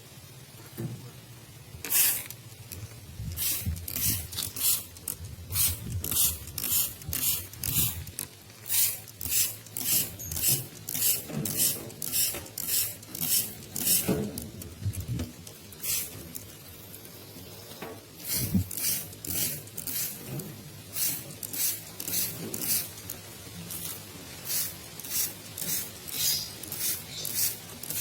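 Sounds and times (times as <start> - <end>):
spray bottle squirting water: 1.8 - 17.1, 18.1 - 28.0.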